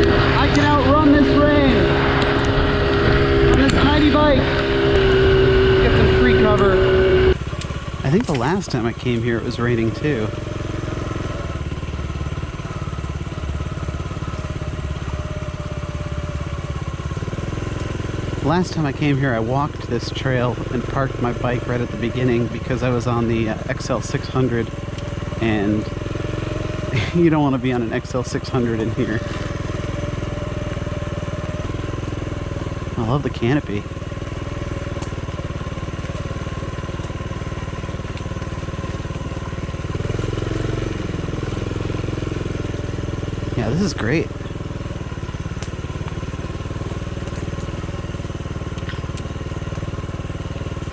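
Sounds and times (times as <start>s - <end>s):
small engine running steadily: 0.0s - 50.9s.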